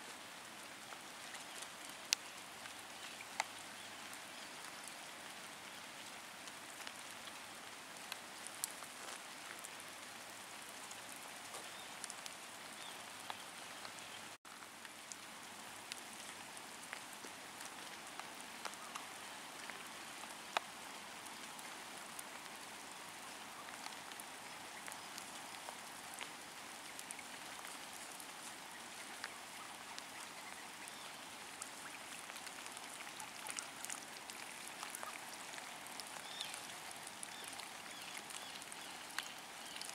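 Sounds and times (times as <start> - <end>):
low outdoor hiss: 0.0 - 39.9.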